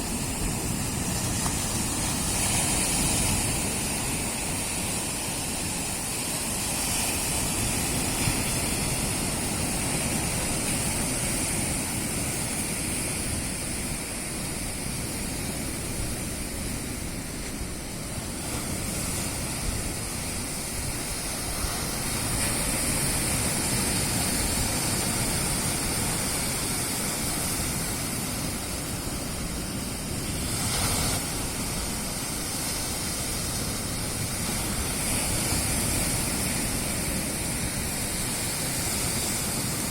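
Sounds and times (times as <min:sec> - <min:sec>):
sea surf breaking on shore: 0:00.0 - 0:39.9.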